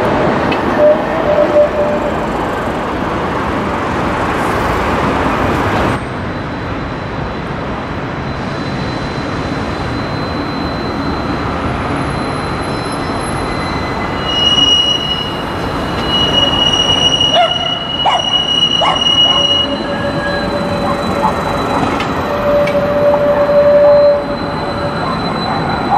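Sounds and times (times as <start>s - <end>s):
wheels clacking on track: 0.0s - 6.8s, 7.4s - 25.9s
street traffic noise: 0.0s - 25.9s
tram wheels squealing: 0.0s - 25.9s.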